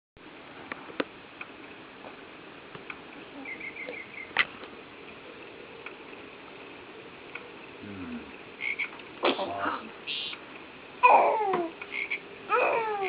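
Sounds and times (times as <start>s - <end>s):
steady hiss: 0.2s - 11.0s.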